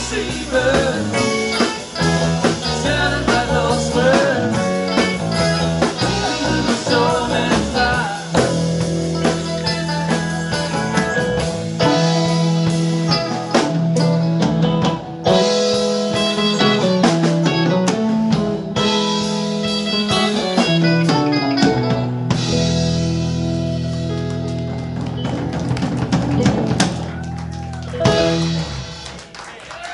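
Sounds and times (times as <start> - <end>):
keyboard: 0.0 - 29.3
drum kit: 0.0 - 29.9
electric guitars: 0.0 - 29.9.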